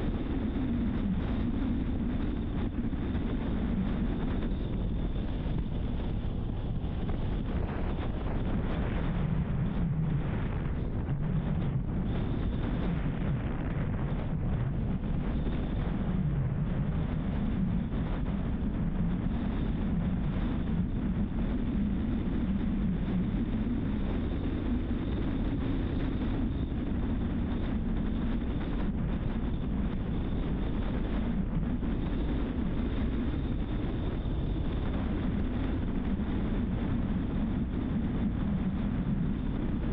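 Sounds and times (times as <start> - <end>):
vehicle rumble and tyres on road: 0.0 - 39.9
wind buffeting microphone: 0.0 - 39.9.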